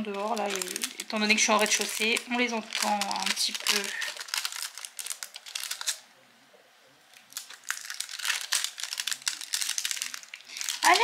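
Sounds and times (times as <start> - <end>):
plastic film crinkling: 0.0 - 6.1, 7.1 - 11.0.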